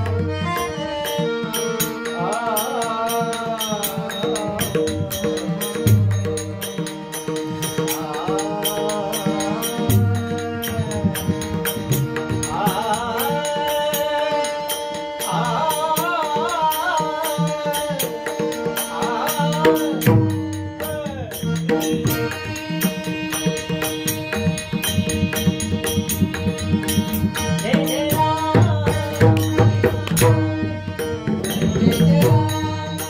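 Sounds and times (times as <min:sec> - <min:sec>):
light percussion strikes: 0:00.0 - 0:33.0
man singing devotional song: 0:00.0 - 0:33.0.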